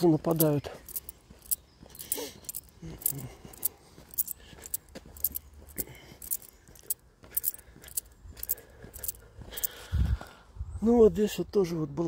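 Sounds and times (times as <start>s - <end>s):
footsteps on dirt path: 0.0s - 10.4s.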